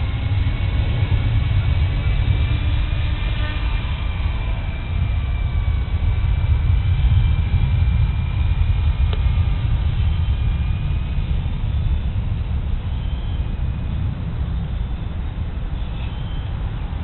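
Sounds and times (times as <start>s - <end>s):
heavy low rumble: 0.0s - 17.0s
high motor whine: 0.0s - 17.0s.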